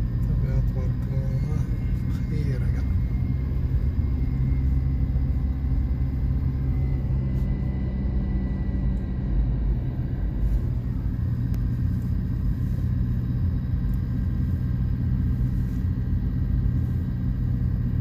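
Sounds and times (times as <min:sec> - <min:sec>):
car engine drone: 0:00.0 - 0:18.0
road rumble: 0:00.0 - 0:18.0.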